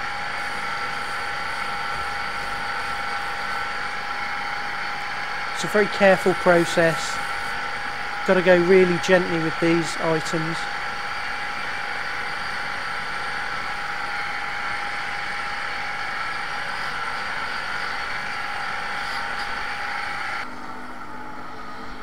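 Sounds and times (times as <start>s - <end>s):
polishing wheel grinding hiss: 0.0s - 20.5s.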